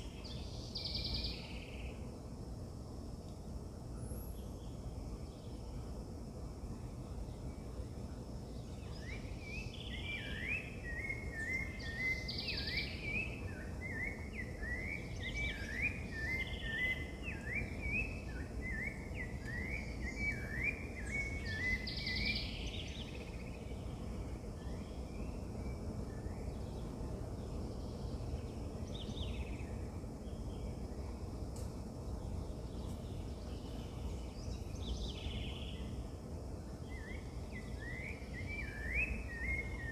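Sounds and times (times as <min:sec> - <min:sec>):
songbird chirping: 0:00.0 - 0:02.2, 0:03.2 - 0:39.9
low background noise: 0:00.0 - 0:39.9.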